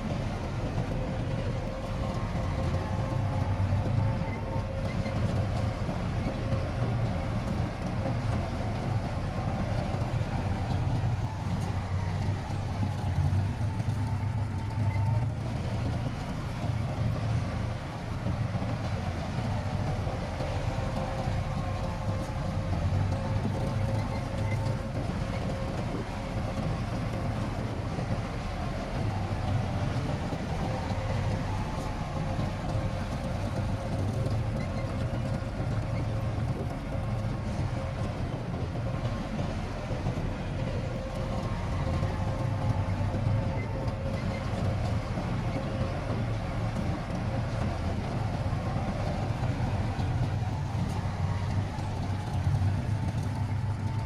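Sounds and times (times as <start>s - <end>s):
diesel machinery engine drone: 0.0s - 54.0s
faint steady whine: 0.0s - 54.0s.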